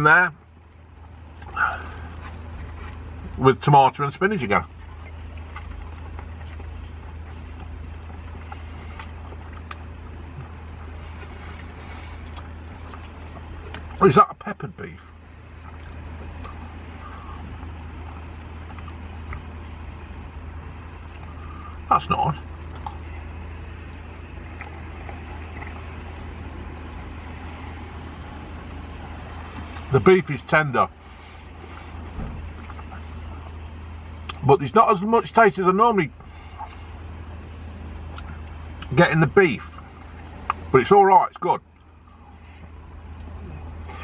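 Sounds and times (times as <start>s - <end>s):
idling van engine hum: 0.0s - 44.0s
faint chewing: 0.4s - 3.4s, 4.4s - 14.1s, 15.0s - 29.9s, 31.0s - 34.4s, 36.2s - 38.9s, 39.7s - 40.7s, 41.6s - 44.0s.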